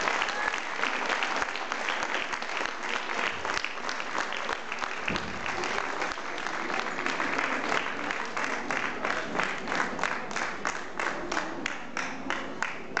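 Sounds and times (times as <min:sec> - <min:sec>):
audience applause: 0:00.0 - 0:13.0
rhythmic clapping in unison: 0:00.0 - 0:13.0.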